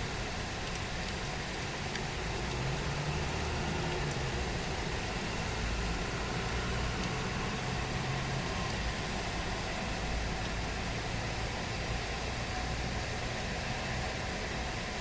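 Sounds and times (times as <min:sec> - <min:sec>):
heavy rain falling: 0:00.0 - 0:12.5.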